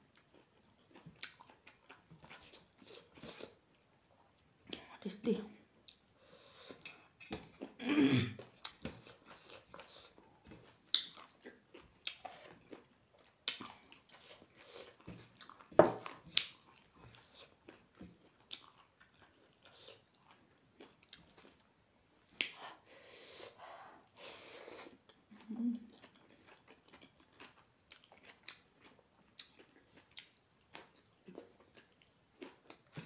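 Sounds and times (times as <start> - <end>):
person chewing with wet smacks: 0.0 - 5.0, 5.6 - 7.8, 8.4 - 22.8, 23.6 - 33.0.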